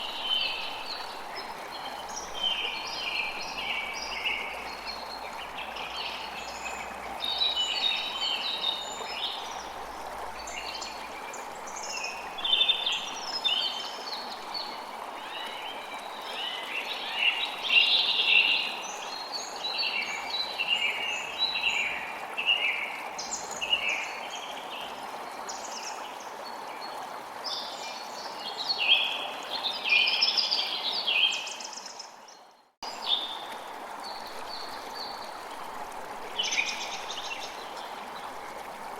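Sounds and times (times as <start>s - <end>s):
flowing water: 0.0s - 38.9s.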